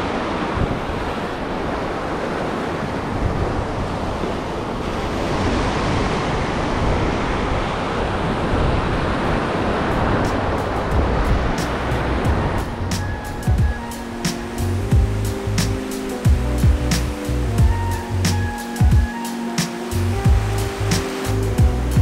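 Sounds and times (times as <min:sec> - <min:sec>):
wind on microphone: 0:00.0 - 0:19.2
ocean surf breaking: 0:00.0 - 0:22.0.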